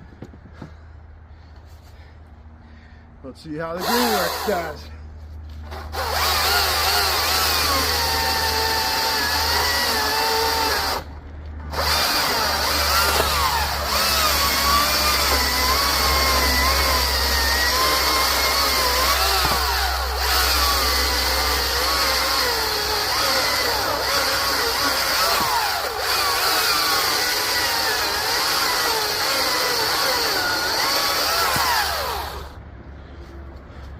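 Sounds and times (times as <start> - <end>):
electric chainsaw whining: 3.7 - 4.9, 5.6 - 32.6.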